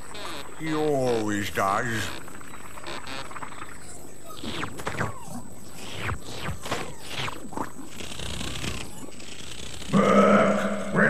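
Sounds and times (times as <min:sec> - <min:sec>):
cartoon bugs chirping and squeaking: 0:00.0 - 0:11.0.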